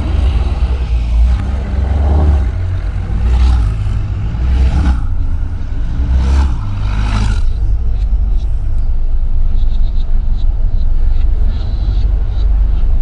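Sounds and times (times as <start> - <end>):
sports car exhaust accelerating: 0.0 - 13.0.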